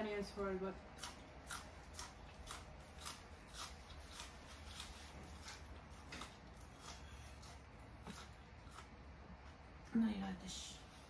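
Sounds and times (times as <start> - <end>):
quiet chewing: 1.0 - 10.0.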